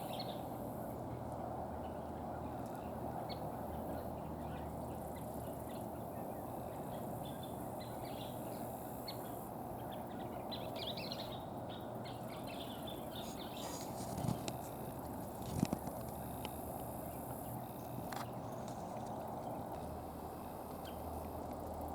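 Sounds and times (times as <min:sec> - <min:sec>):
birds chipping and twittering: 0:00.0 - 0:21.9.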